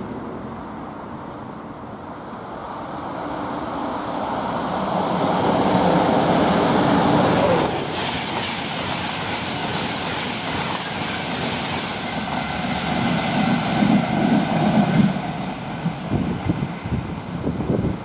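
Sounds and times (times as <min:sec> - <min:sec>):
train passing on rails: 0:00.0 - 0:18.0.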